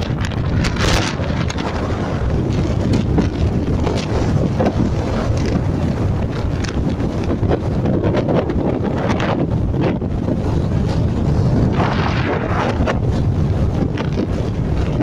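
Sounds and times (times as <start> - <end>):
waves breaking on shore: 0.0 - 15.0
wind buffeting microphone: 0.0 - 15.0.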